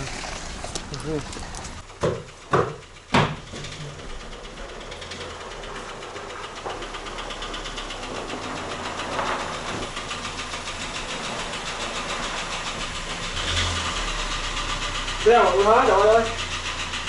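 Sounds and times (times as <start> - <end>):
engine running with metallic knock: 0.0 - 17.0.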